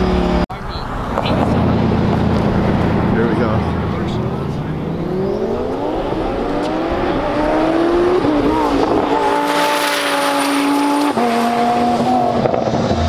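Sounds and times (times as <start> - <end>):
sports car accelerating: 0.0 - 13.0.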